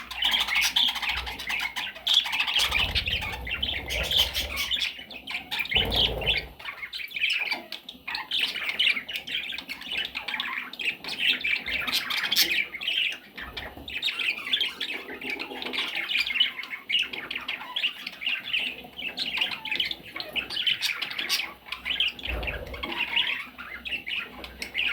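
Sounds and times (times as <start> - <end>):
parrot chicks squawking: 0.0 - 24.9.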